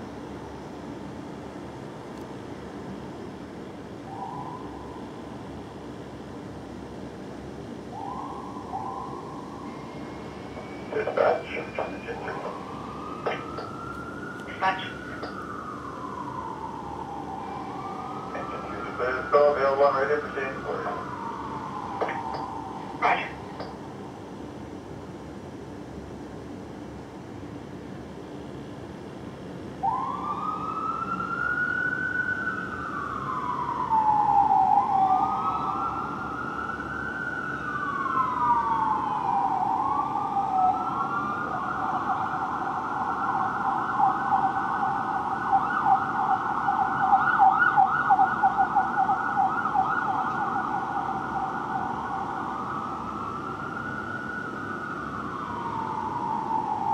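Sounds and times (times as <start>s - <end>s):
fire truck siren: 2.5s - 24.7s, 29.7s - 56.9s.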